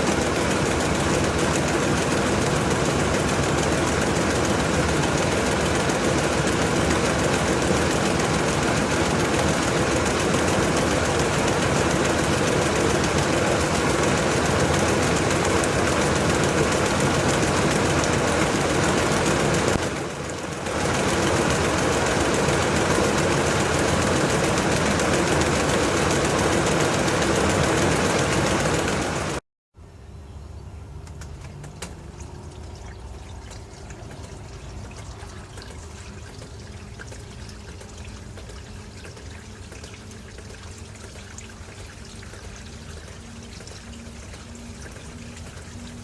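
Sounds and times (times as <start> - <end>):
washing machine running: 0.0 - 29.4, 31.0 - 46.0.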